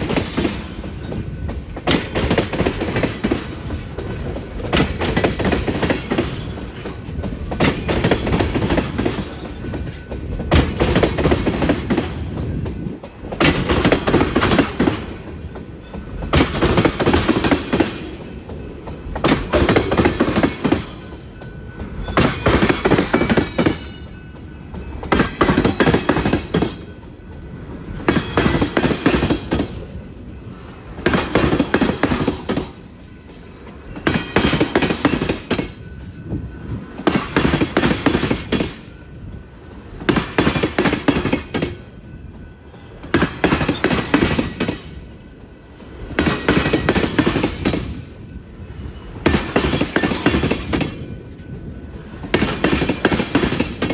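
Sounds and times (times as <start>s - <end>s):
train rolling noise: 0.0s - 53.9s
train wheels clattering over rail joints: 0.0s - 53.9s.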